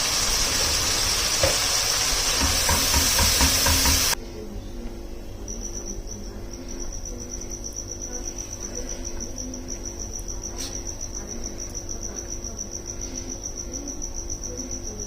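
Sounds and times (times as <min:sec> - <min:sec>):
insect chirping: 0:00.0 - 0:04.2, 0:05.3 - 0:15.0.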